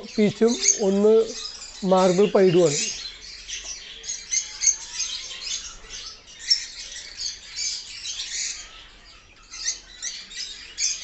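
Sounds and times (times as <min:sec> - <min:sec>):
caged birds chirping and squawking: 0:00.0 - 0:11.0.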